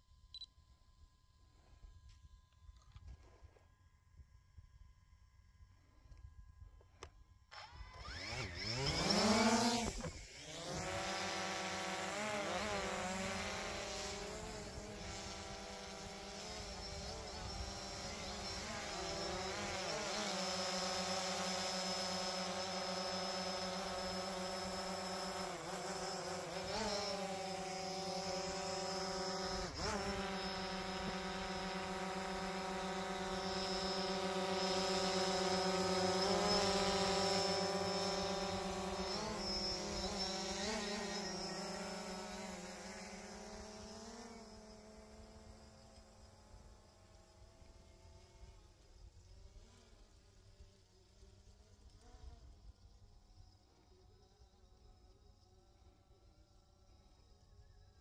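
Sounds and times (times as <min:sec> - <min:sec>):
drone motors buzzing: 0:06.8 - 0:57.6.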